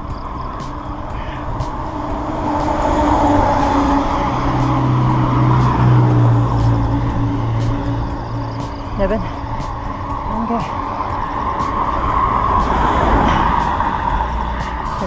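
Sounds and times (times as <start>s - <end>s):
road rumble: 0.0s - 15.0s
vehicle engine hum: 0.0s - 15.0s.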